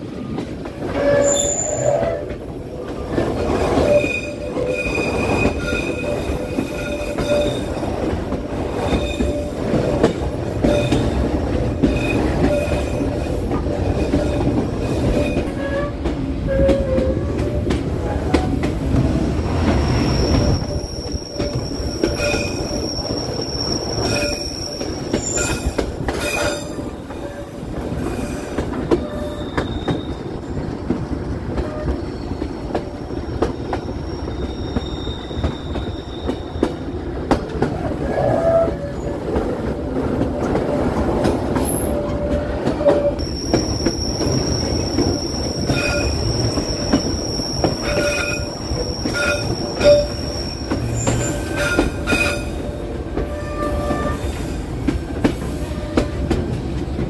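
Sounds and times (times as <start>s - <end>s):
rail joint clicks: 0.0s - 57.0s
train rumble: 0.0s - 57.0s
train wheels squealing on rails: 0.2s - 37.0s, 37.6s - 57.0s.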